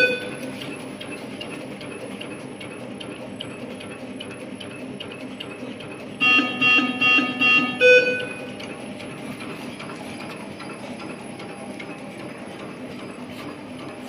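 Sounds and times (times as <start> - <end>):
regular mechanical ticking: 0.0 - 14.0.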